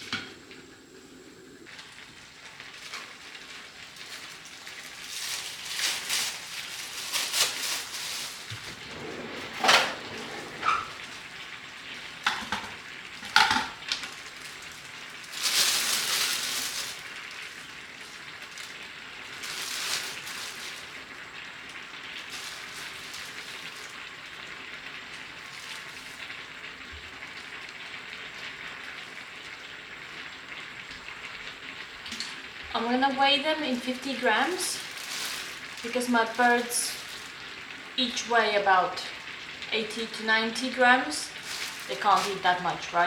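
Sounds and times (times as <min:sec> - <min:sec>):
steady low hiss: 0:00.0 - 0:43.0.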